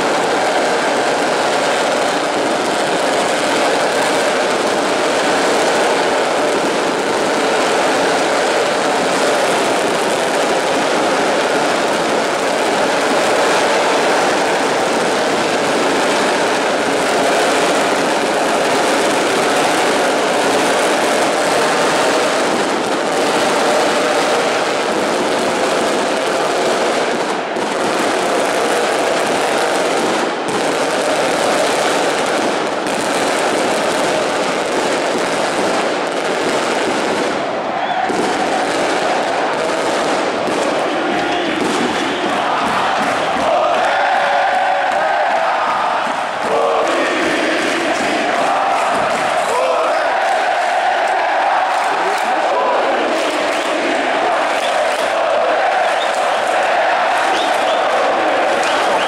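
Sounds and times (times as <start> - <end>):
stadium crowd cheering and chanting: 0.0 - 59.0.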